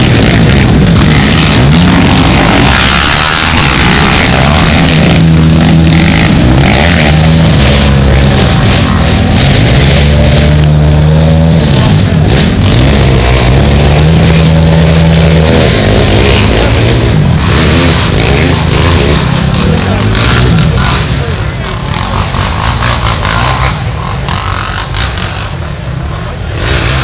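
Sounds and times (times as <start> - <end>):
atv engines revving: 0.0 - 27.0.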